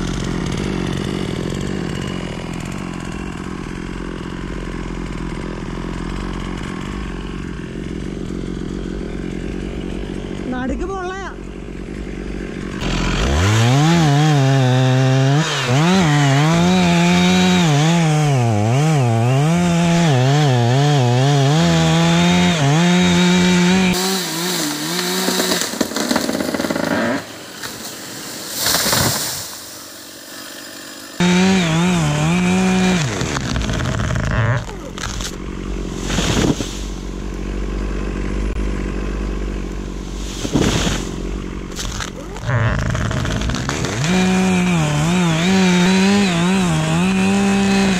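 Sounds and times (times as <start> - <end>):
chainsaw revving and cutting: 0.0 - 47.9.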